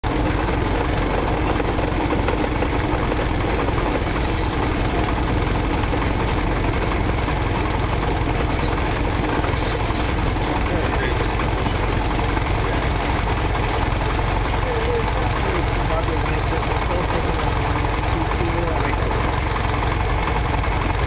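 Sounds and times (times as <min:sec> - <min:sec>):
light aircraft engine and propeller: 0:00.0 - 0:21.0.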